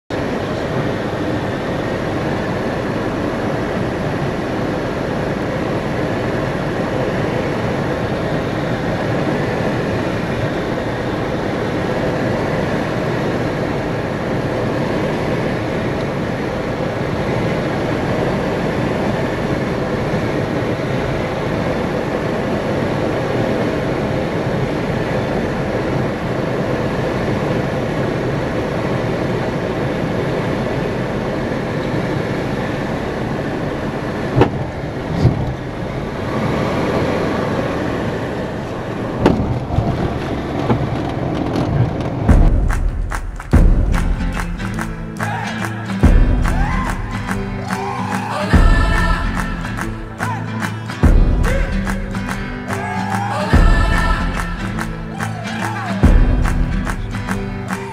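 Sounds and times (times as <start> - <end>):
airplane engine and propeller: 0.1 - 47.6
cockpit airflow noise: 0.1 - 57.9.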